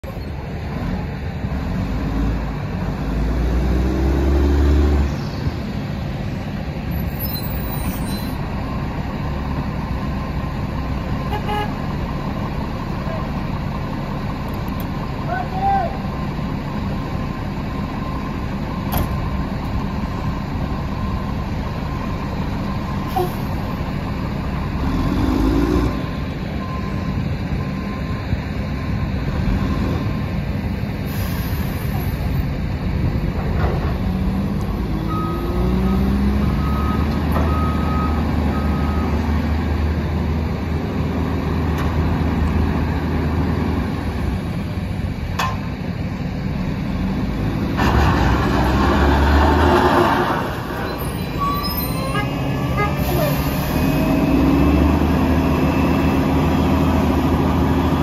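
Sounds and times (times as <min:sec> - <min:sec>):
diesel engine revving: 0:00.3 - 0:58.0
hydraulics whining: 0:02.8 - 0:58.0.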